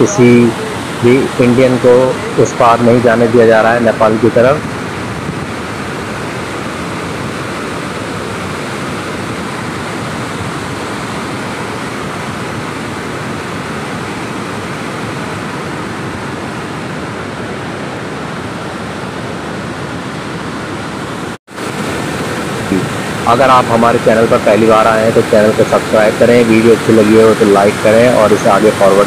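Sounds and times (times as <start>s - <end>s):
river rushing in flood: 0.0s - 29.0s.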